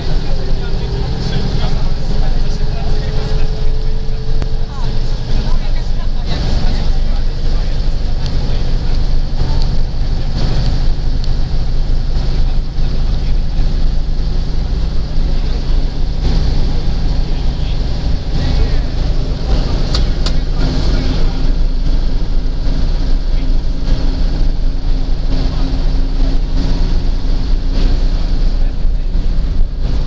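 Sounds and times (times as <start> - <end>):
bus diesel engine rumbling: 0.0 - 30.0
passengers' voices: 0.0 - 30.0.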